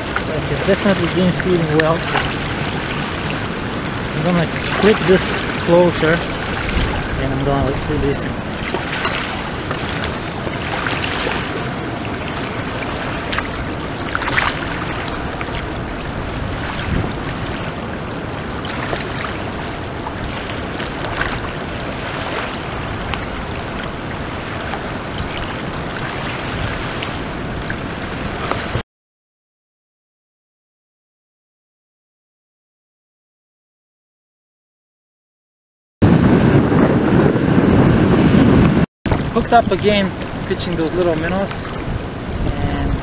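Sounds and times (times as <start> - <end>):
rush of water: 0.0 - 28.8, 36.0 - 43.0
waves lapping on shore: 0.0 - 28.8, 36.0 - 43.0.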